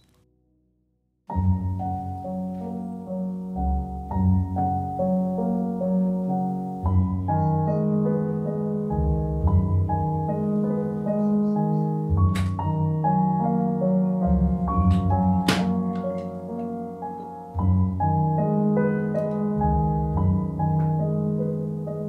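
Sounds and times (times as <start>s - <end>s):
soft low bass line: 1.3s - 16.9s, 17.5s - 22.0s
sustained keyboard chords: 1.3s - 22.0s.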